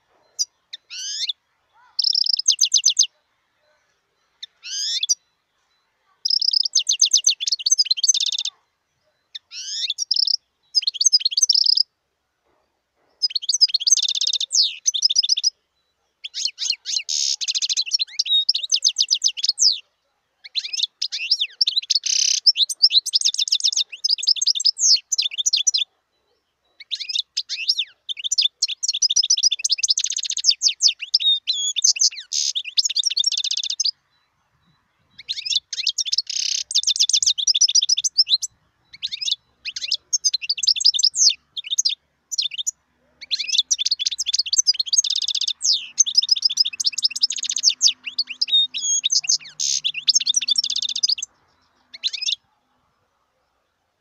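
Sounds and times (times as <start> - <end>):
goldfinch twittering song: 0.0 - 11.9, 13.2 - 52.5.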